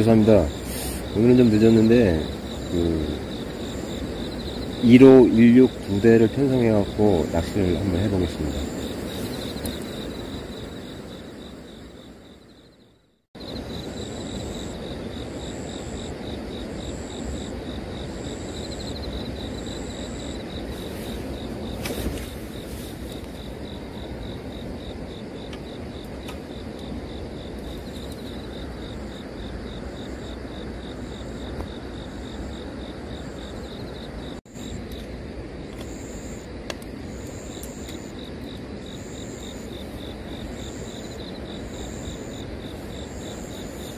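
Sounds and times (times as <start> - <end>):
steady background noise: 0.0 - 12.8, 13.4 - 43.9
crickets chirping: 0.0 - 43.9
insect pulsing high: 0.0 - 43.9.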